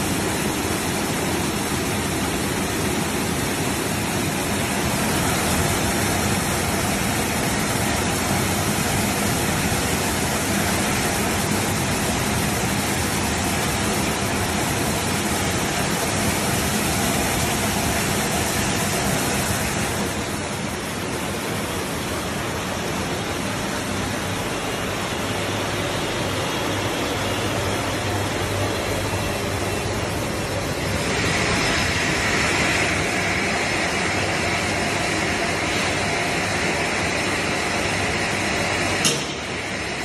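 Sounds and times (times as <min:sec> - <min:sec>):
low machine hum: 0:00.0 - 0:40.0.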